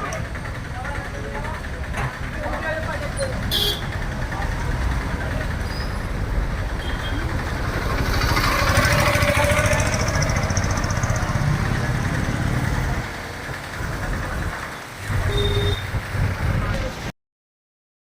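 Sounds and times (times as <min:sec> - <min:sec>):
vehicle engine rumbling past: 0:00.0 - 0:17.1.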